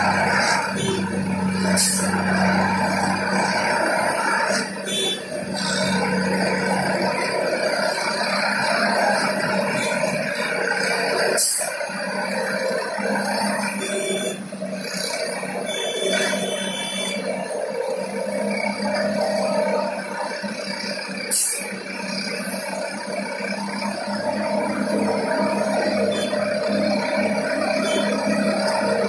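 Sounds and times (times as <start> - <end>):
machinery engine drone: 0.0 - 29.0.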